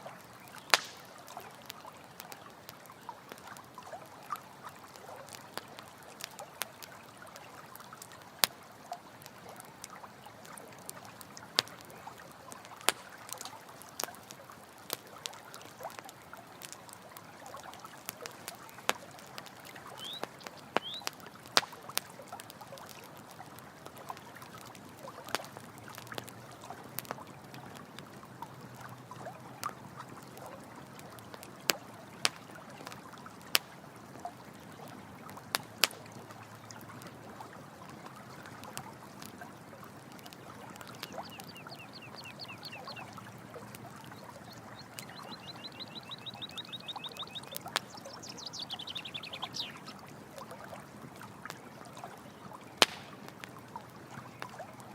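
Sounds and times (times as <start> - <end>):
campfire crackling and popping: 0.0 - 54.9
running water trickling: 0.0 - 54.9.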